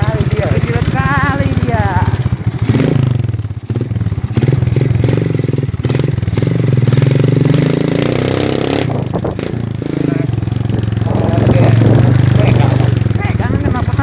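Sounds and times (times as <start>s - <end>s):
motorcycle clattering: 0.0s - 14.0s
motorcycle engine revving: 0.0s - 14.0s.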